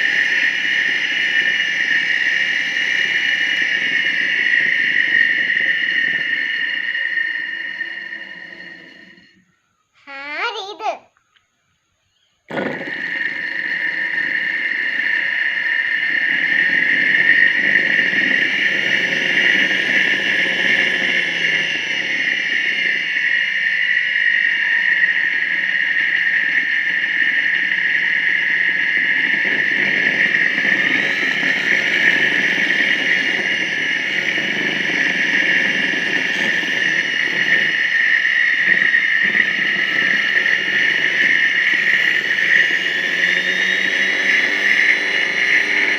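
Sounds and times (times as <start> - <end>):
radiator cooling fan whirring: 0.0 - 9.3, 12.5 - 45.9
high whine: 0.0 - 10.4, 12.4 - 45.9.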